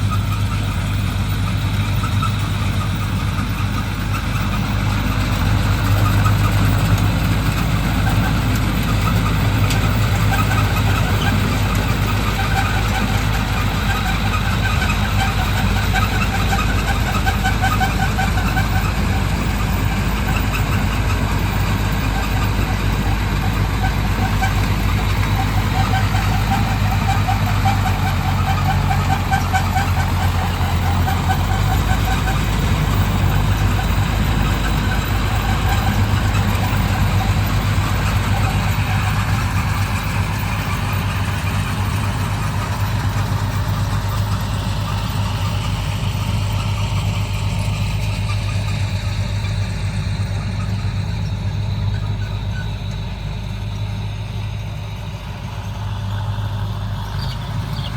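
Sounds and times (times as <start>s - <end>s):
combine harvester engine hum: 0.0s - 57.9s.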